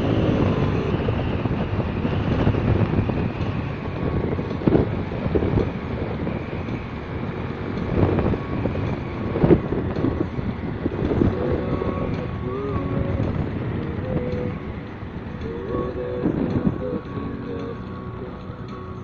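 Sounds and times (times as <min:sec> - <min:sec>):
motorcycle engine rumble: 0:00.0 - 0:19.0
wind buffeting microphone: 0:00.0 - 0:19.0.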